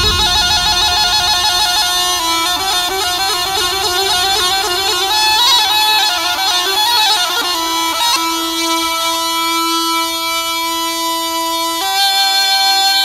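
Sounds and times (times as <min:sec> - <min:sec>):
bagpipe music: 0:00.0 - 0:13.0.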